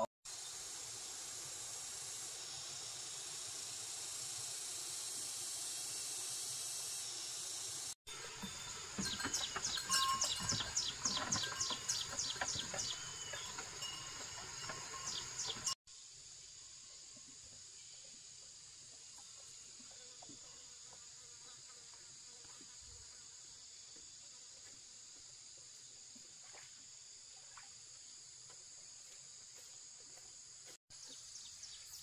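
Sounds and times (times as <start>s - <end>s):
forest insects buzzing: 0.3s - 27.2s.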